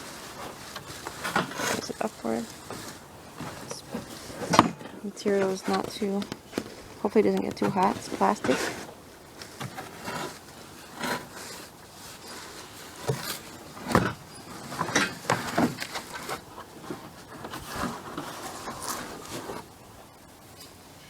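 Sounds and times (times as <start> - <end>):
packaging rustling: 0.0 - 19.8.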